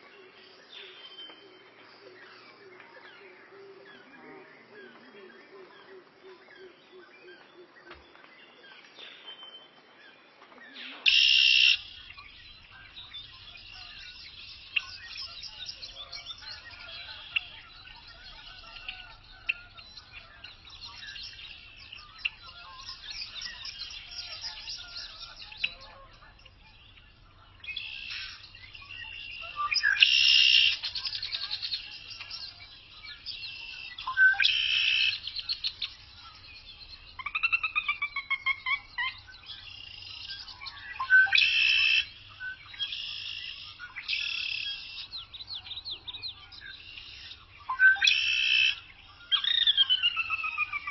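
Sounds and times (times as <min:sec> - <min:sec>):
birds chirping and twittering: 0:00.0 - 0:50.9.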